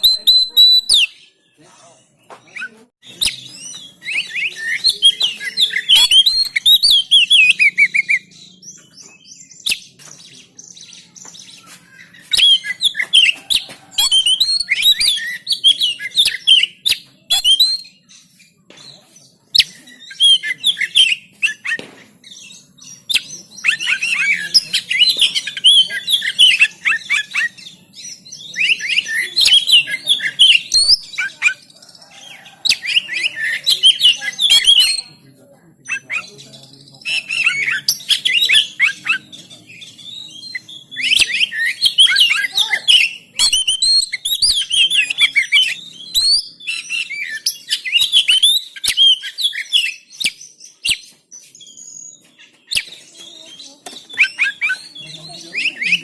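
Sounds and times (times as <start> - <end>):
songbird singing whistles and trills: 0.0 - 1.4, 2.2 - 35.2, 35.8 - 56.0.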